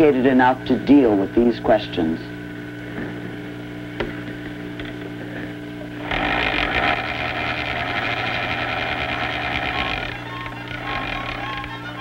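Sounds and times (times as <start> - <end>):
projector electrical hum: 0.0 - 12.0.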